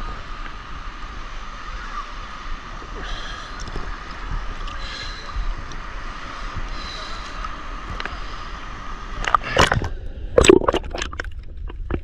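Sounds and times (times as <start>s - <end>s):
steady hiss: 0.0s - 10.4s
water splashing and gurgling: 0.0s - 12.0s.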